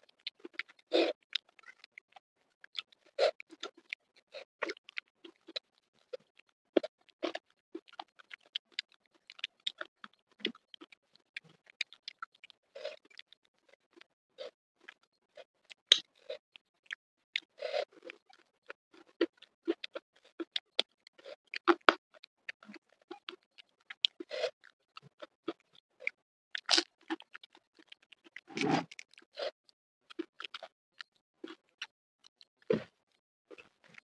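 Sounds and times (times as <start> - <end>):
person chewing crispy fish: 0.0 - 34.0.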